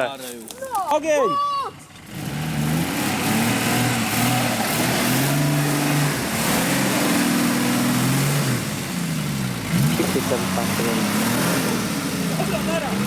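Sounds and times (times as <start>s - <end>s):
engine revving hard: 2.1s - 13.0s.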